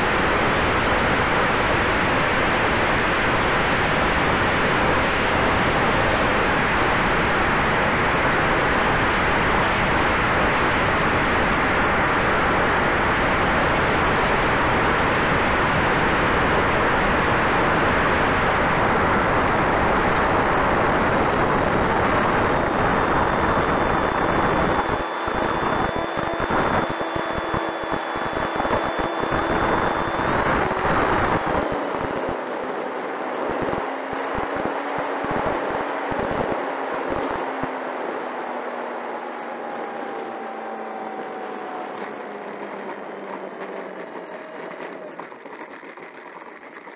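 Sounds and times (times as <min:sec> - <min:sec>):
wind rushing over microphone: 0:00.0 - 0:45.2
electric motor and propeller whine: 0:00.0 - 0:46.9.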